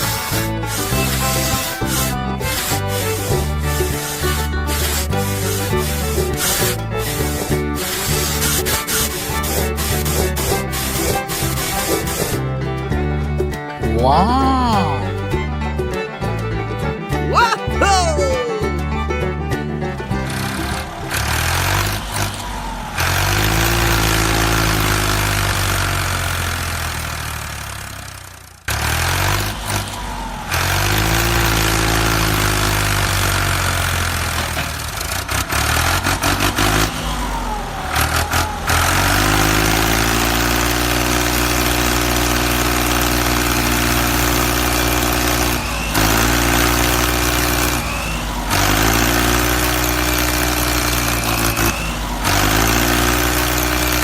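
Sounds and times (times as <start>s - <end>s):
model truck engine revving: 0.0s - 13.6s, 18.8s - 54.0s.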